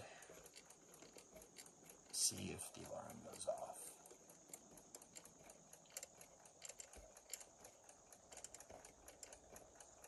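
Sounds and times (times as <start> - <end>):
faint clock clicking: 0.0 - 10.0.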